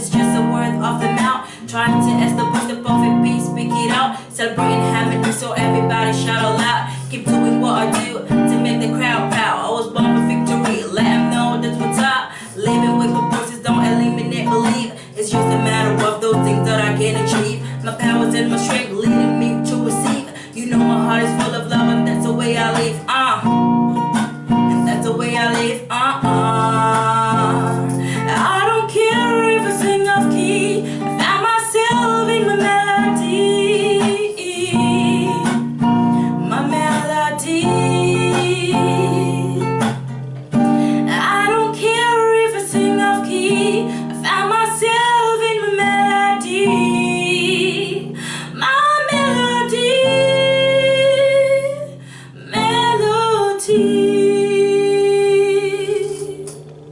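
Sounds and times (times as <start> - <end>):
person singing: 0.0 - 23.8, 24.6 - 39.8, 40.6 - 56.6
strummed acoustic guitar: 0.0 - 56.9.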